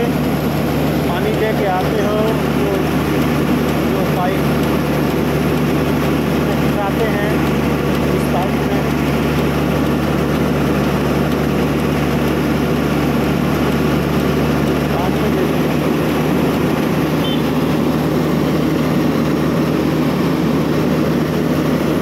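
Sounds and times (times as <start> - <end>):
drilling rig engine humming: 0.0 - 22.0.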